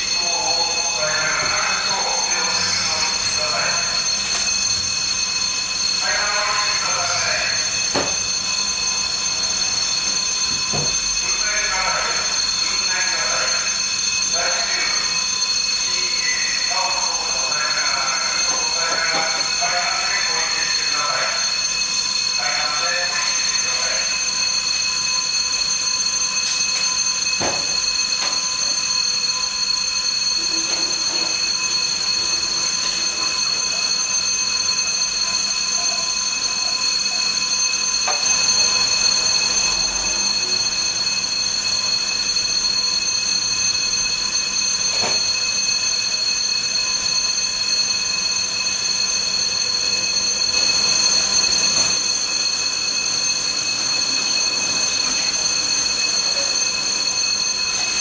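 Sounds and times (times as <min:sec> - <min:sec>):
fire bell ringing: 0:00.0 - 0:58.0.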